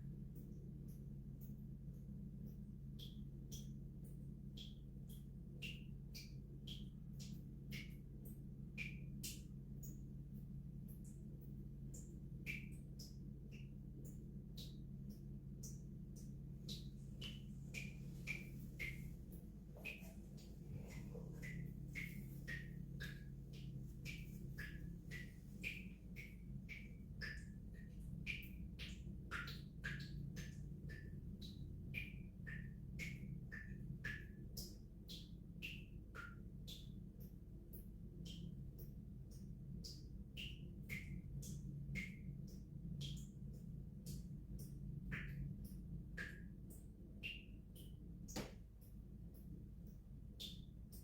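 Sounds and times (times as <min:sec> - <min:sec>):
steady low hum: 0:00.0 - 0:51.0
water dripping: 0:00.0 - 0:51.0.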